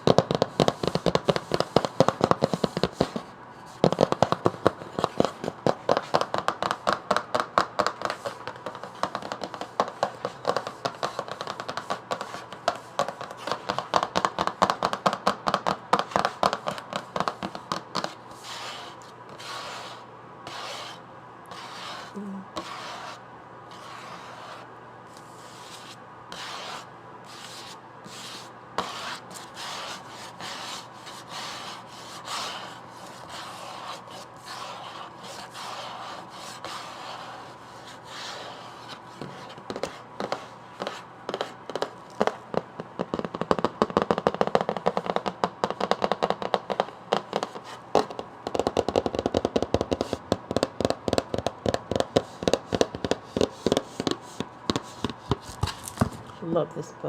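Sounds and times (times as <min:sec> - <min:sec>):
fingers tapping a book: 0:00.0 - 0:56.4
fingers scratching a book: 0:00.1 - 0:56.1.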